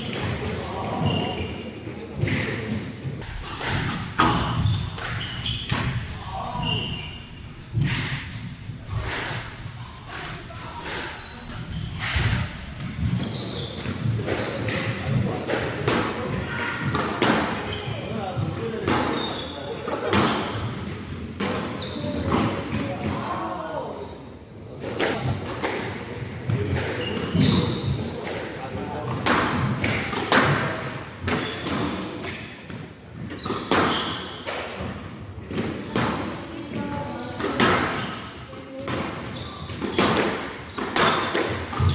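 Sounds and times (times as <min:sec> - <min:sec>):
squash ball hits echoing: 0:02.1 - 0:23.5, 0:24.9 - 0:41.9.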